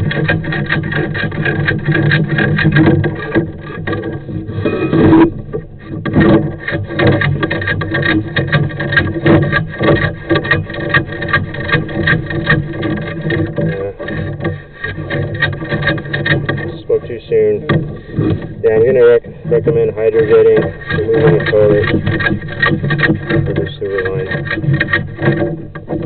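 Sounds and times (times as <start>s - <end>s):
camera cable scraping in metal pipe: 0.0s - 26.0s
steady low hum: 0.0s - 26.0s.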